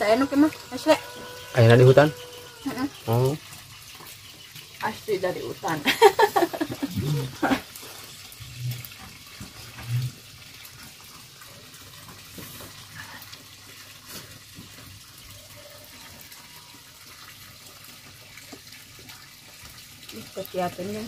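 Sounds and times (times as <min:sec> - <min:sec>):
running water hissing: 0:00.0 - 0:21.0.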